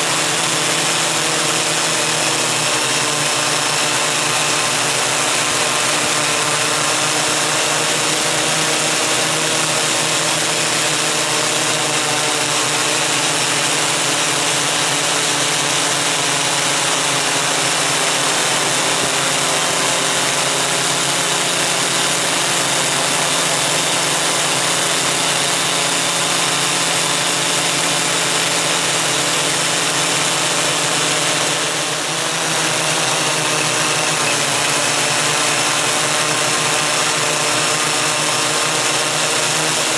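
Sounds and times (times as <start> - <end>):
multicopter propellers whirring: 0.0 - 39.9.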